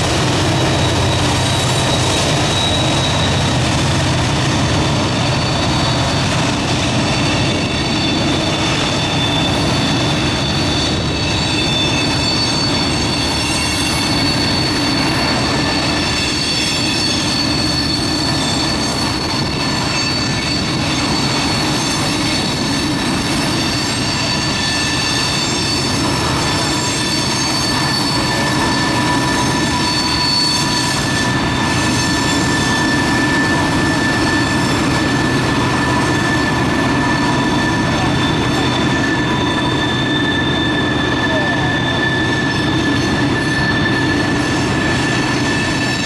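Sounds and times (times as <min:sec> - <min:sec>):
high-pitched wheel squeals: 0:00.0 - 0:46.0
train wheels rumbling on rails: 0:00.0 - 0:46.0.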